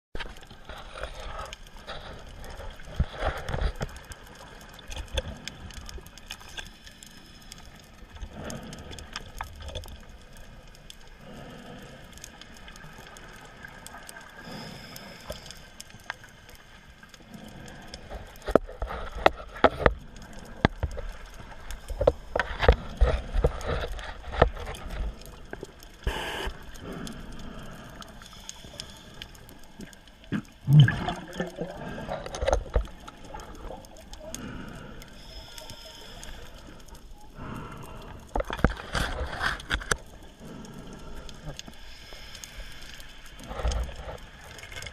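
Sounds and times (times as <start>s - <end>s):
underwater gurgling: 0.2s - 44.9s.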